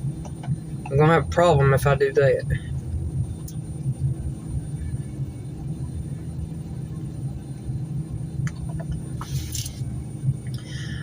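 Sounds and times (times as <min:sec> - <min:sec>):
golf cart driving: 0:00.0 - 0:11.0.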